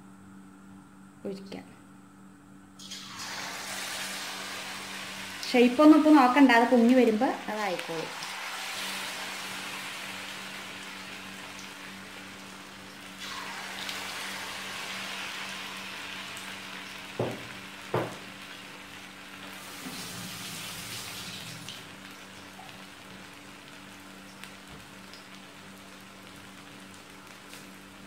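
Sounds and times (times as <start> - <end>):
batter sizzling in hot oil: 2.8 - 28.0.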